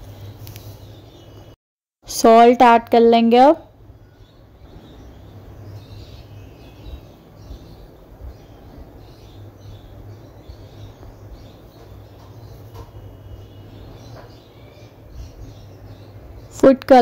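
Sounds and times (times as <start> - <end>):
small birds chirping: 0.0 - 1.6, 2.2 - 17.0.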